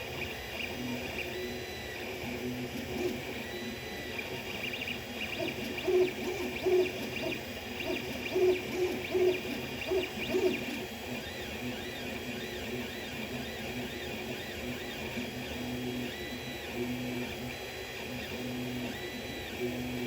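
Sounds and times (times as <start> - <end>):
stepper motors whining: 0.0 - 20.0.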